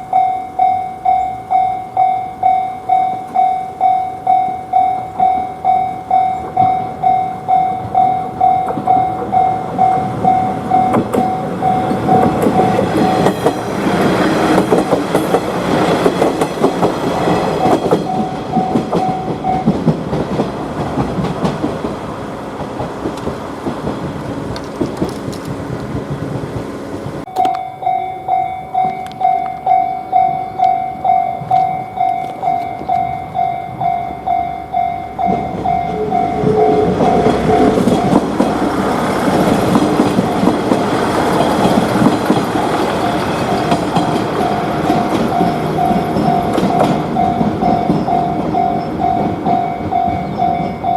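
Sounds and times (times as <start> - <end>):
level crossing bell clanging: 0.0 - 20.1, 27.3 - 50.9
train running past: 0.0 - 50.9.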